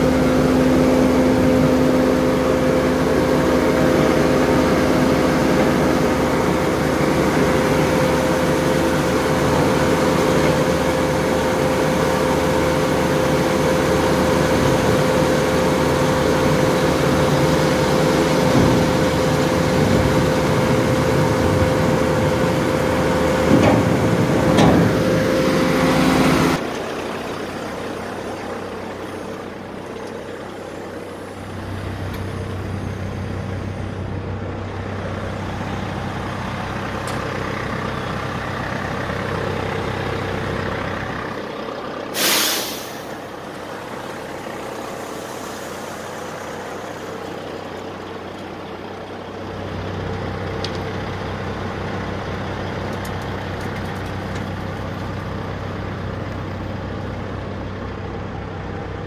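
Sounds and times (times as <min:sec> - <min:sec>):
grain auger humming: 0:00.0 - 0:59.0.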